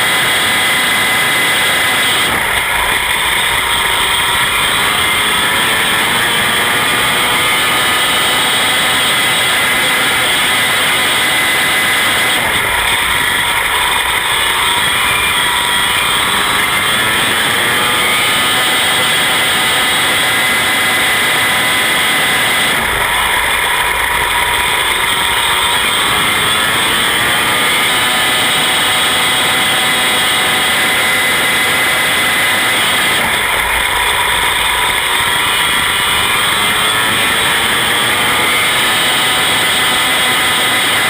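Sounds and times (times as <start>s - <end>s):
race car engine running hard: 0.0s - 41.0s.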